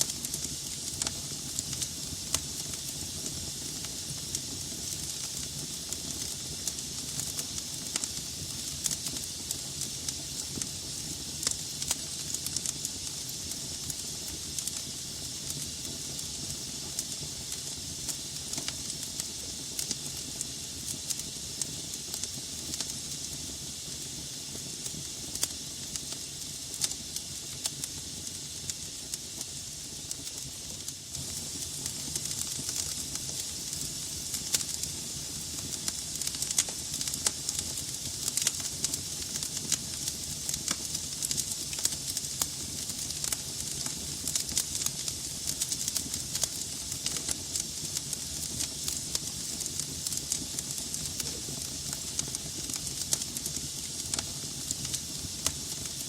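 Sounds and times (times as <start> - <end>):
burning logs crackling and popping: 0.0 - 56.0
flames hissing: 0.0 - 56.0.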